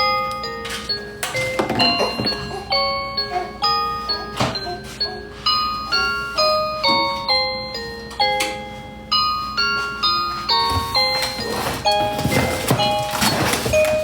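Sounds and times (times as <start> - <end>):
chiming bell-like melody: 0.0 - 14.0.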